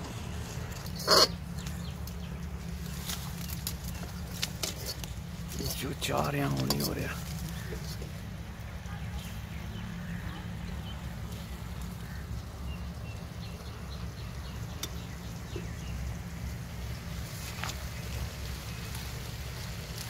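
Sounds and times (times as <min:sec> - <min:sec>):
low rumble: 0:00.0 - 0:17.4.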